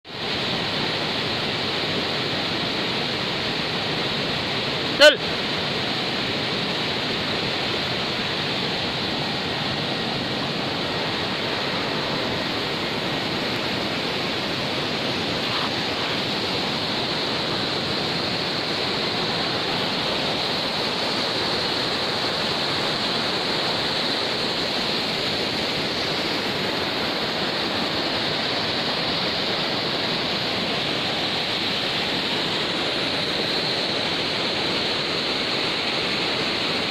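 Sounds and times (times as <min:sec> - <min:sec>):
river rapids rushing: 0:00.1 - 0:36.9.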